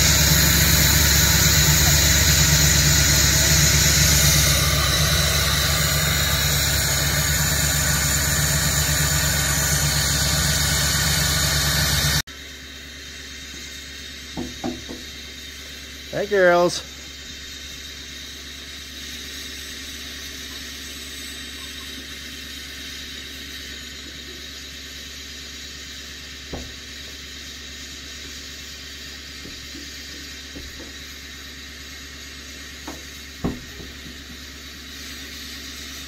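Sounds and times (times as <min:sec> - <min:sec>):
diesel engine idling: 0:00.0 - 0:20.6, 0:21.9 - 0:36.0.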